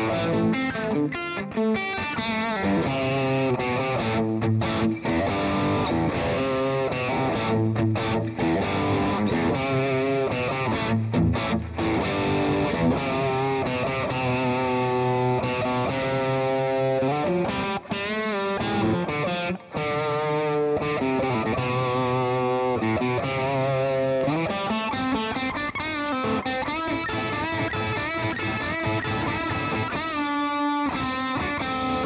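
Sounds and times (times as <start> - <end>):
distorted electric guitar lead: 0.0 - 32.0.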